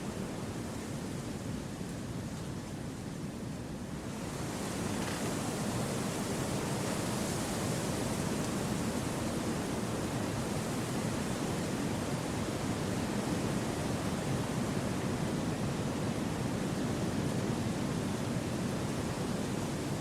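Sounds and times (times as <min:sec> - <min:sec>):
wind through forest trees: 0:00.1 - 0:20.0.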